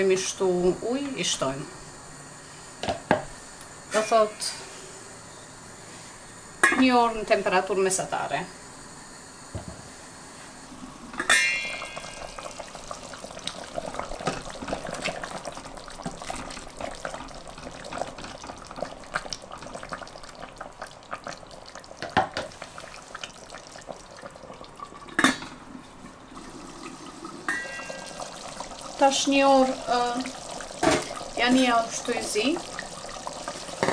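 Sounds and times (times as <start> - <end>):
broth simmering in a pot: 0.0 - 33.9.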